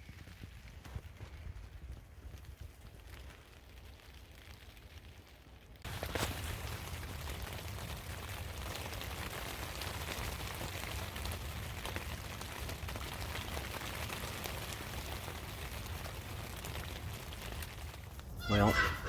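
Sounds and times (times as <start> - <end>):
rain pattering on a roof: 0.0 - 18.9.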